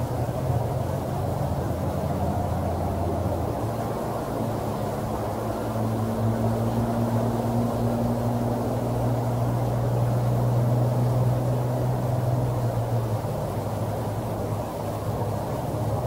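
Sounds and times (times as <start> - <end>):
low mechanical drone: 0.0 - 16.0.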